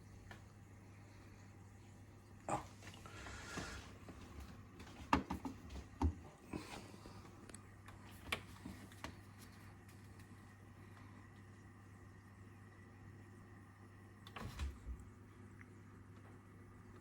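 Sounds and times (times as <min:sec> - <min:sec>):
aquarium filter humming: 0:00.0 - 0:17.0.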